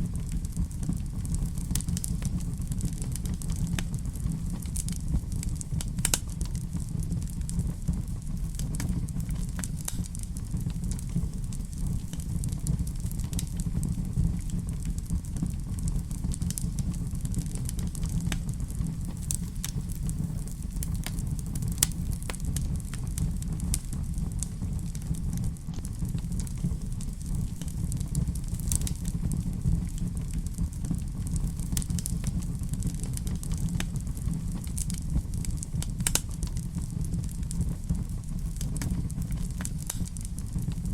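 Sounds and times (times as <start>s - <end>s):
low rumble: 0.0s - 40.9s
wood fire crackling: 0.0s - 40.9s
sharp pops of fire: 0.1s - 40.9s.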